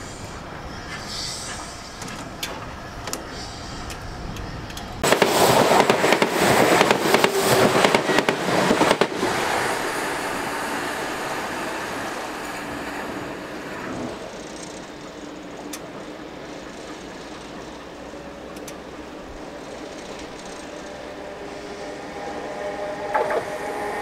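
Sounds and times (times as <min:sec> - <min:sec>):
steam train crackling hiss: 0:00.0 - 0:24.0.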